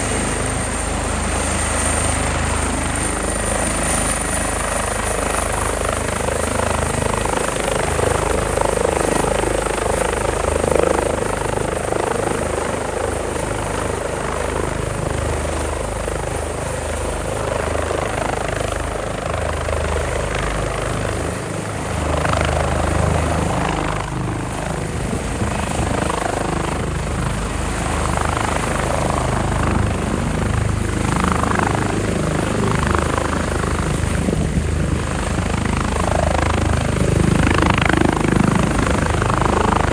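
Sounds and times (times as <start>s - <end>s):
helicopter rotor beat: 0.0s - 39.9s
helicopter turbine whine: 0.0s - 39.9s.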